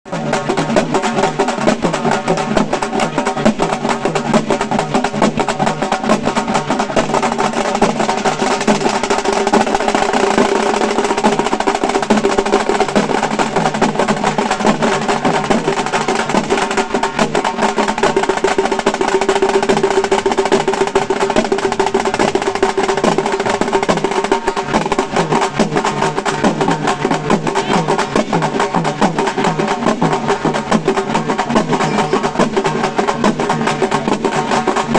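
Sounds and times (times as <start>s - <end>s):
frame drums beaten fast: 0.1s - 34.9s.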